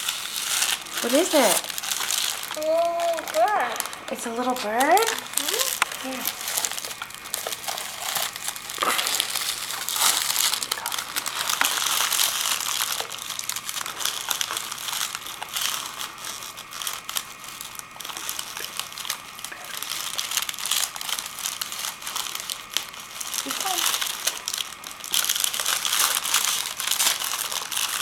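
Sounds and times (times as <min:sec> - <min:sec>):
gift paper crinkling: 0:00.0 - 0:28.0.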